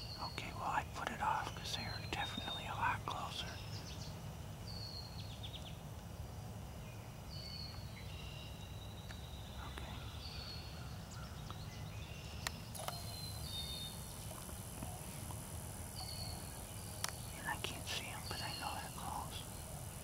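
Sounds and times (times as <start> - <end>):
songbird calling: 0.0 - 5.8, 6.8 - 19.9.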